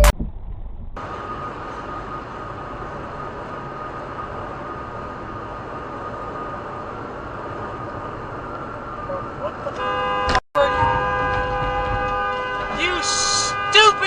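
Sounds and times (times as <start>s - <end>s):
vehicle running rumble: 0.0s - 12.7s.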